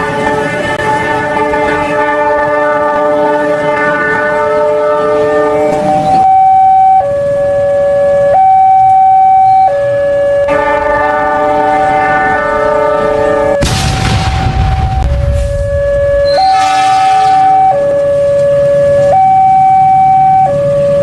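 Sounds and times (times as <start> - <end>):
electronic train horn chord: 0.0 - 13.7, 15.7 - 21.0
two-tone siren: 0.0 - 13.7, 14.9 - 21.0.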